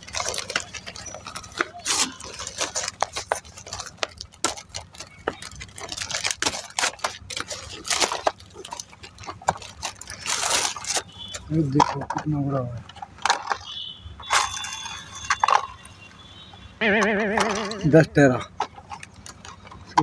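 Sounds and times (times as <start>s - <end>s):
packaging clicks and knocks: 0.0s - 15.9s, 18.4s - 20.0s
packaging rustling and scraping: 0.0s - 16.4s, 17.4s - 20.0s.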